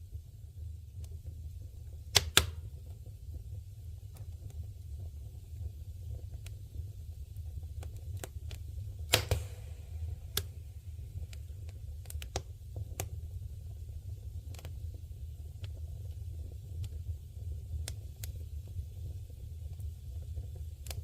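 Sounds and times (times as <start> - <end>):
wood bonfire crackling: 0.7 - 21.0.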